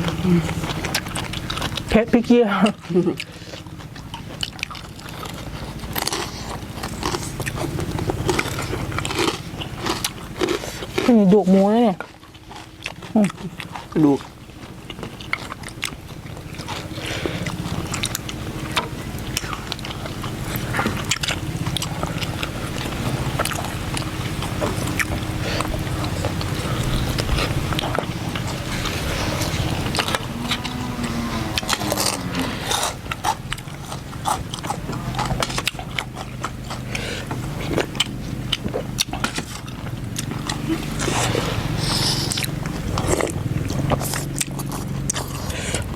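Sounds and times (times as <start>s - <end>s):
chewing and biting: 0.0s - 45.9s
steady low hum: 0.0s - 45.9s.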